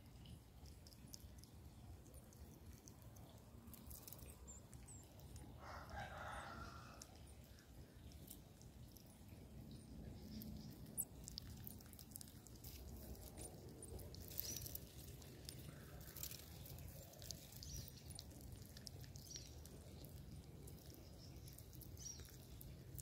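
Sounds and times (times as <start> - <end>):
chewing clicks and smacks: 0.2 - 23.0.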